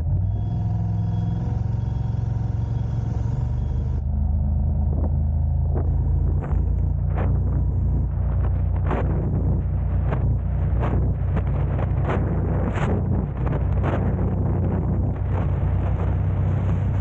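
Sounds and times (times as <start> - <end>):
car engine and road rumble: 0.0 - 17.0
engine hum: 0.0 - 17.0.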